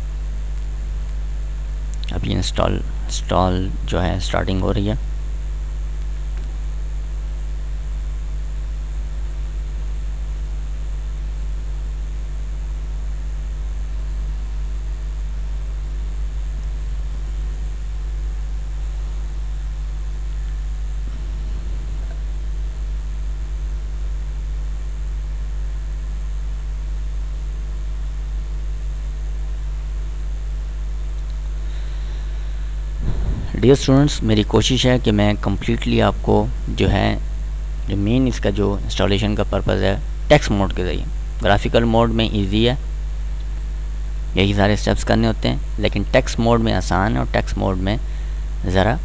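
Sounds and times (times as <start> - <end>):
electrical hum: 0.0 - 49.0
microphone hiss: 0.0 - 49.0.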